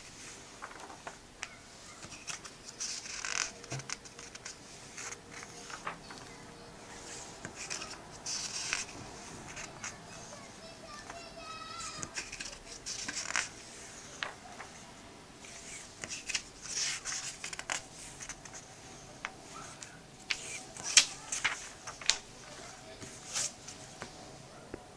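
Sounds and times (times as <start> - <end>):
paper pages rustling: 0.0 - 24.3.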